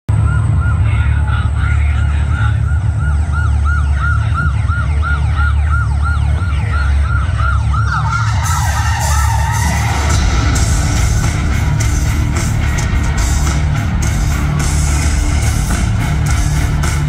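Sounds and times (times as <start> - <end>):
warbling siren tone: 0.1 - 16.7
deep rumble: 0.1 - 17.0.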